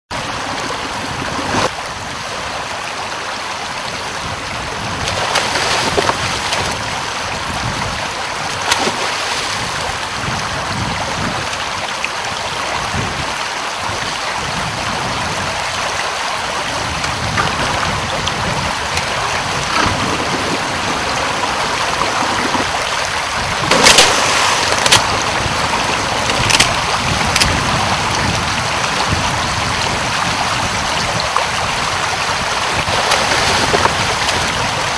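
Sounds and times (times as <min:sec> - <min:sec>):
river water flowing: 0:00.1 - 0:34.9
wind: 0:00.1 - 0:34.9.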